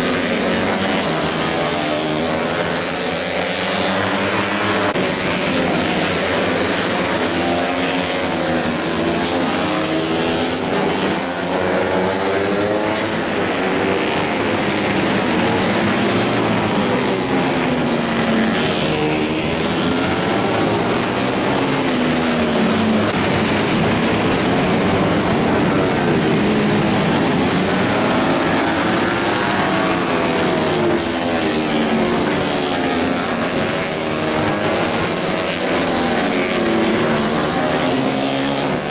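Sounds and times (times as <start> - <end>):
racing motorcycles revving: 0.0 - 38.9.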